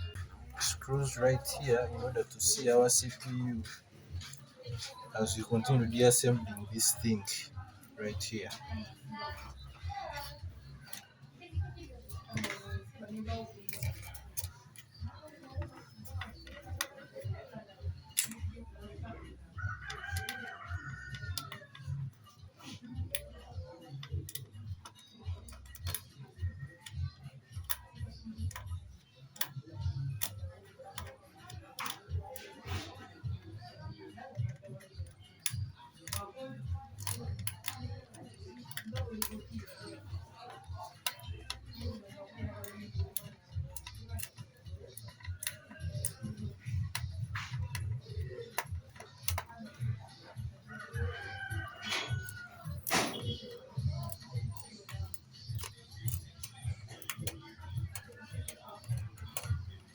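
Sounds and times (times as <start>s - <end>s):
screwdriver clicks on metal parts: 4.1s - 11.1s, 12.0s - 59.9s.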